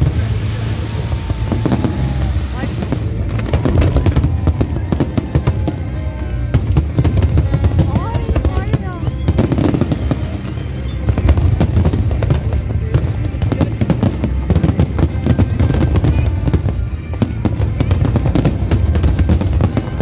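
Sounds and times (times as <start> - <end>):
fireworks bangs and crackling: 0.0 - 20.0
music playing: 0.0 - 20.0.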